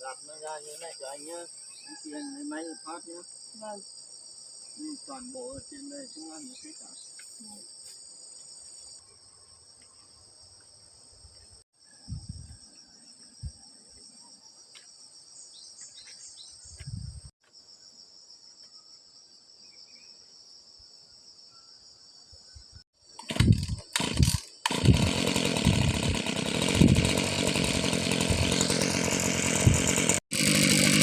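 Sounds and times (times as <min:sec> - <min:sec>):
insects chorus: 0:00.0 - 0:25.9.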